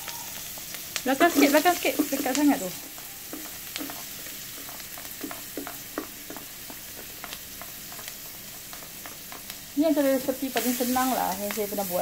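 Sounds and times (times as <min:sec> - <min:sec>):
vegetables sizzling in butter: 0:00.0 - 0:12.0
spatula tapping and scraping: 0:00.6 - 0:12.0.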